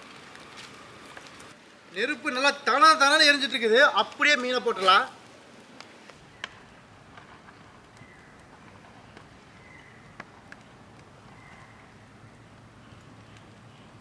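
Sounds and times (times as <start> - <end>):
flames hissing: 0.0 - 14.0
wood fire popping: 0.0 - 14.0.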